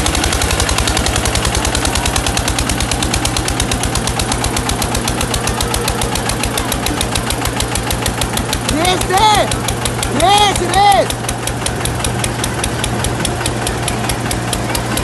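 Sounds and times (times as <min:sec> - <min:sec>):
diesel tractor engines under load: 0:00.0 - 0:15.0.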